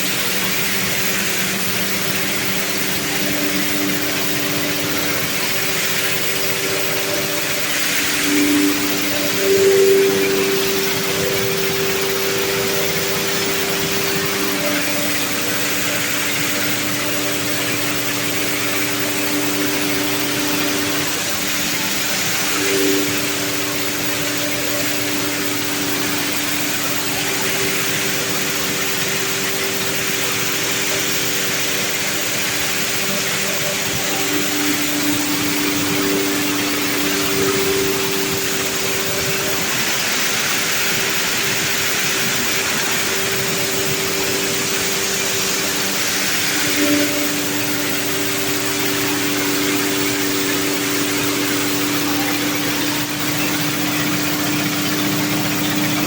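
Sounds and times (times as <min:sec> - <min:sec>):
corn sheller machine running: 0:00.0 - 0:56.0.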